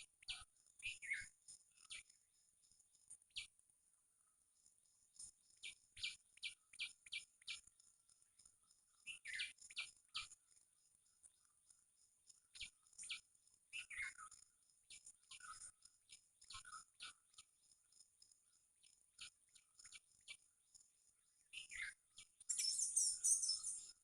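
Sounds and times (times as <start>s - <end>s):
small birds chirping: 0.0s - 3.6s, 5.2s - 20.5s, 21.4s - 24.0s.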